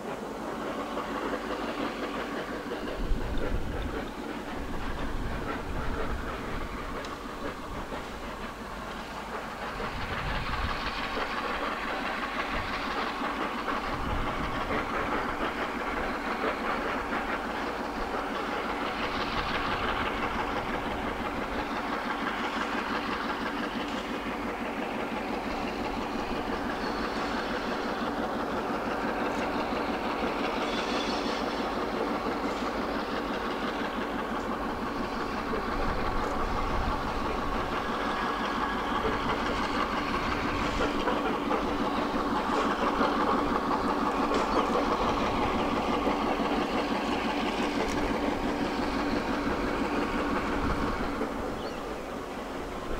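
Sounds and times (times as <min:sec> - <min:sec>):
diesel locomotive engines droning: 0:00.0 - 0:52.9
train wheels on rails: 0:00.0 - 0:52.9.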